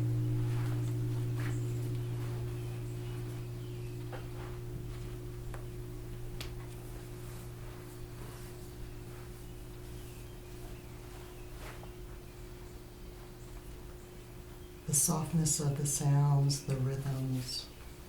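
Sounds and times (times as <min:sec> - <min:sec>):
sound-bath instrument humming tone: 0:00.0 - 0:18.0.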